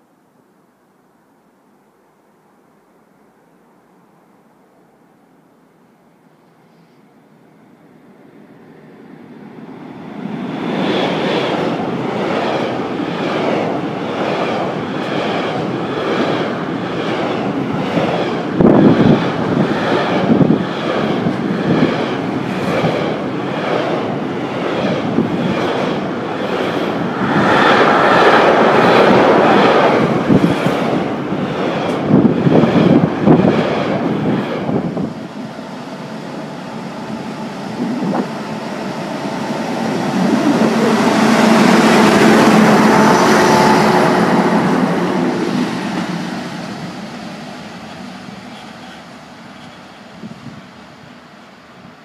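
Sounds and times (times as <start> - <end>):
freight train rumble: 7.1 - 52.0.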